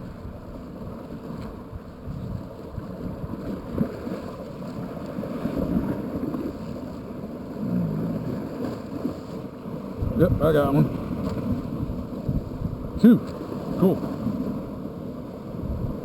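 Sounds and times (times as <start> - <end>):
water sloshing: 0.0 - 15.2
wind rumbling on microphone: 0.0 - 16.0.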